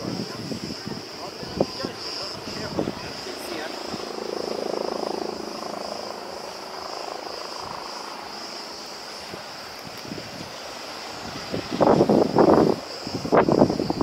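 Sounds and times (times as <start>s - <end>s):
distant engine drone: 0.0s - 14.0s
high-pitched hiss: 0.0s - 14.0s.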